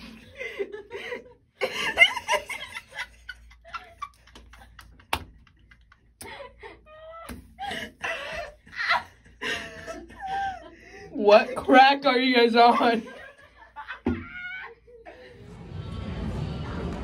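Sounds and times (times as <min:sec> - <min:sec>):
people laughing and giggling: 0:00.0 - 0:11.7, 0:12.7 - 0:15.5.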